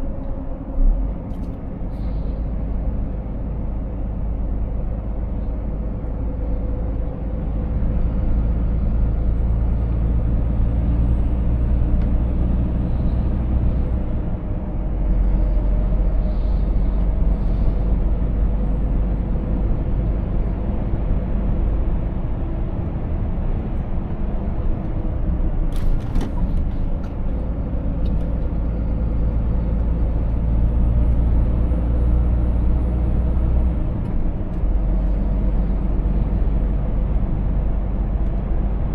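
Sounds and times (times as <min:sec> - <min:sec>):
truck diesel engine rumbling: 0:00.0 - 0:38.9.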